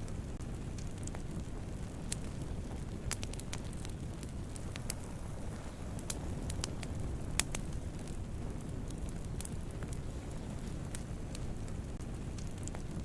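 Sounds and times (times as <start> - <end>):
fire crackling and popping: 0.0 - 13.0
wood fire rumbling: 0.0 - 13.0.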